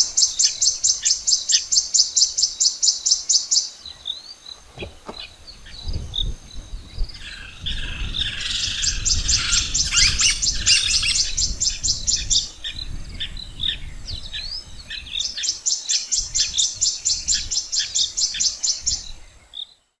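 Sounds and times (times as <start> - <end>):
birds chirping: 0.0 - 19.8.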